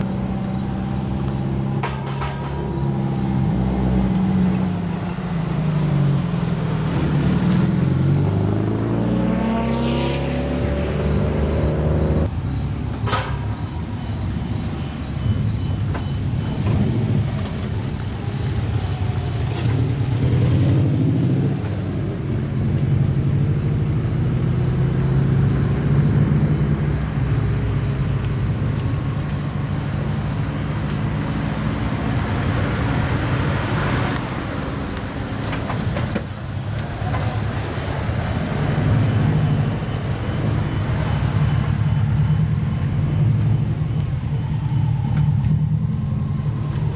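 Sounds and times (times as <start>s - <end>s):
cars with loud exhausts driving: 0.0s - 46.9s.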